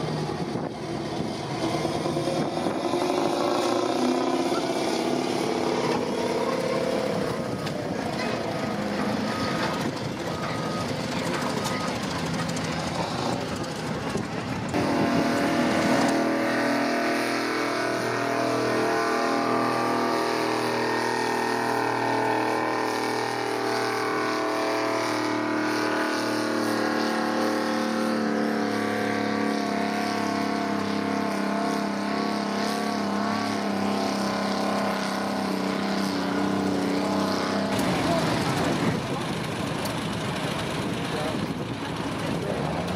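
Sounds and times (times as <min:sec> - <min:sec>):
tractor engine working under load: 0:00.0 - 0:42.9.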